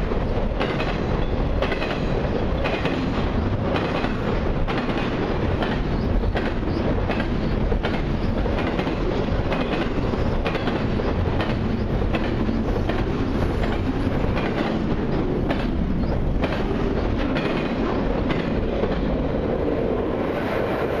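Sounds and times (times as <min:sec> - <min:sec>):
train wheels clickety-clack: 0:00.0 - 0:21.0
train wheels rumbling: 0:00.0 - 0:21.0.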